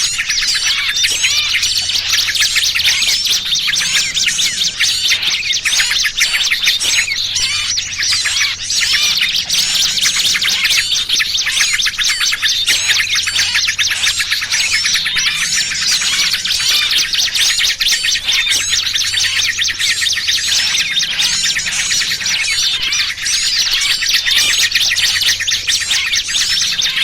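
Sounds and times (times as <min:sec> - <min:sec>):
small birds chirping and trilling: 0:00.0 - 0:27.0.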